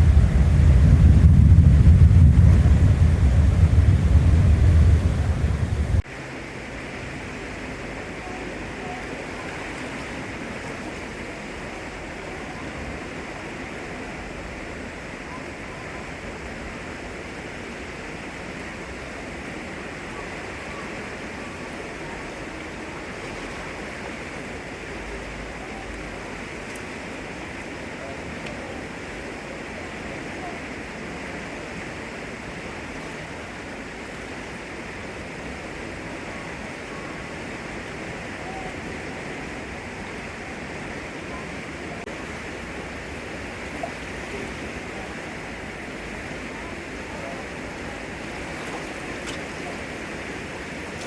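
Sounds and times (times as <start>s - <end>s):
floodwater rushing: 0.0s - 51.0s.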